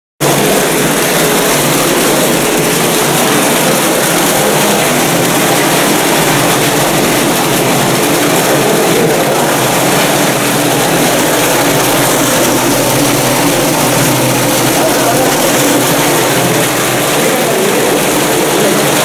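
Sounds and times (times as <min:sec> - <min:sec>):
water splashing into cistern: 0:00.2 - 0:19.0.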